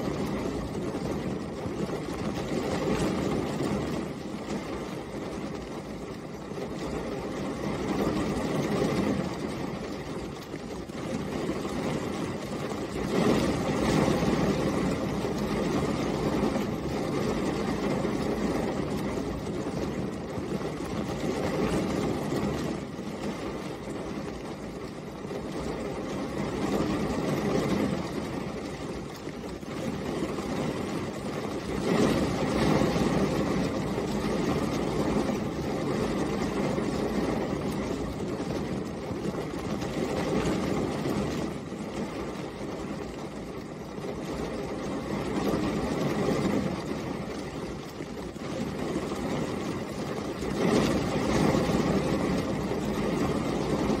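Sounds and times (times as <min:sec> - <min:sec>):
steady rainfall patter: 0:00.0 - 0:54.0.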